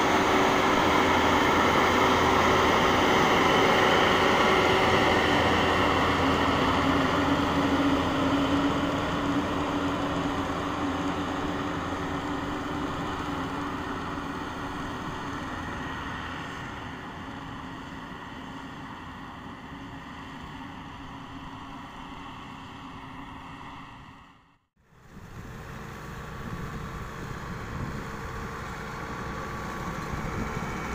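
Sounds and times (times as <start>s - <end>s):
combine harvester diesel engine: 0.0s - 30.9s.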